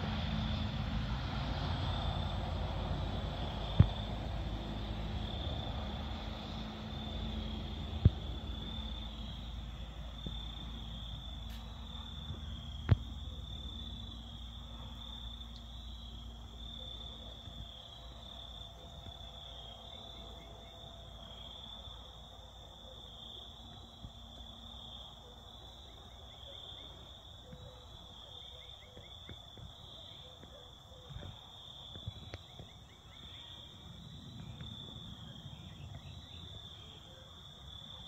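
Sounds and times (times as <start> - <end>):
insects trilling: 1.4 - 38.0.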